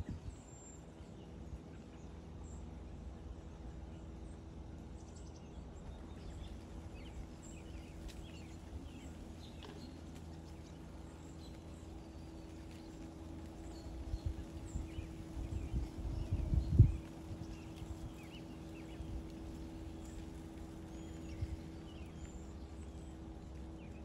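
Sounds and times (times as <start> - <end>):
faint steady hum: 0.0 - 24.0
low wind rumble: 0.0 - 24.0.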